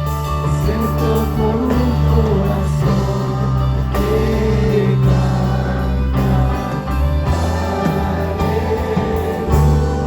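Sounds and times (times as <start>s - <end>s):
worship band playing: 0.0s - 10.0s
person singing: 0.3s - 10.0s.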